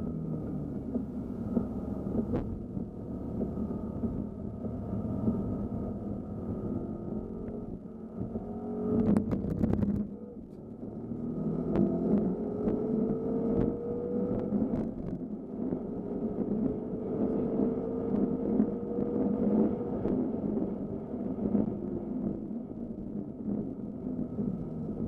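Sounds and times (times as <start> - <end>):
car engine accelerating from inside: 0.0 - 25.0
road and tyre noise on wet track: 0.0 - 25.0.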